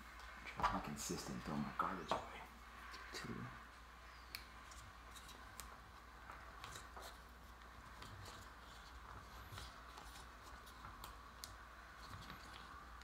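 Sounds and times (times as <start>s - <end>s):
room hiss and hum: 0.0s - 13.0s.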